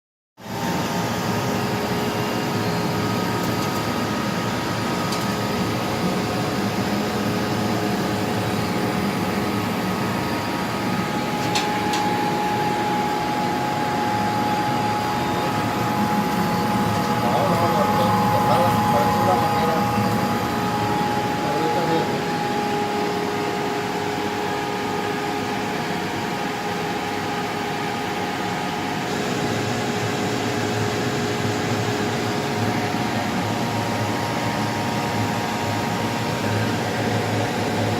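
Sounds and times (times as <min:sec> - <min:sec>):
laser cutter fans whirring: 0:00.4 - 0:37.9.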